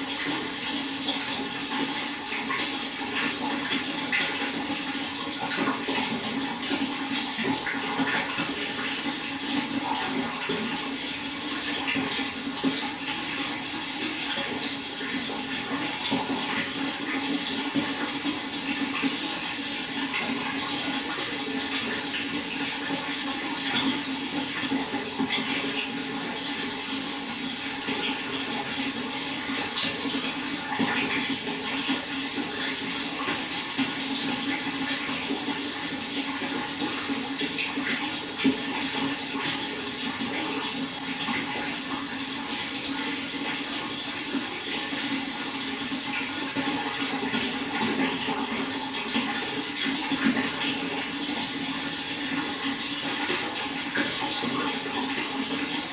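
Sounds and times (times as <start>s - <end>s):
running water splashing: 0.0s - 55.9s.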